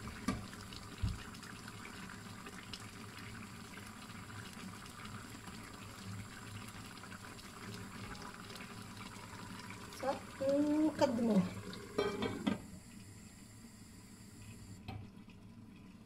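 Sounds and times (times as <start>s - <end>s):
pot simmering with bubbling hiss: 0.0s - 16.0s.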